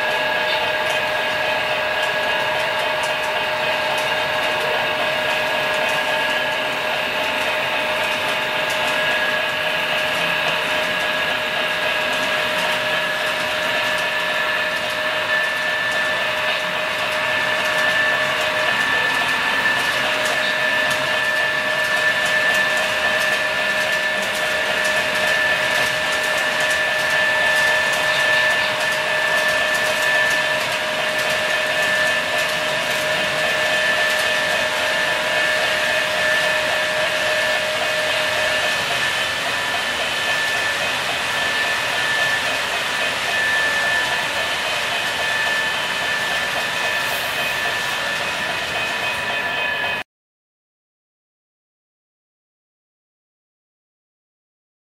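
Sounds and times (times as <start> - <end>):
metal wheels hissing on track: 0.0 - 50.0
model train whine: 0.0 - 50.0.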